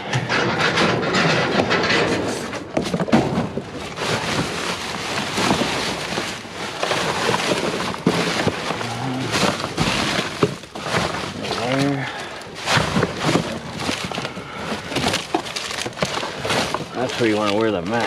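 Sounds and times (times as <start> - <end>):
scrap metal rattling and knocking: 0.0 - 18.0.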